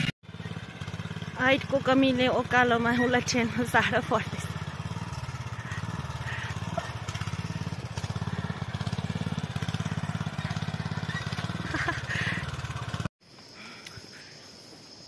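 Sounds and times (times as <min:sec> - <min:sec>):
power tiller engine running: 0:00.0 - 0:13.1.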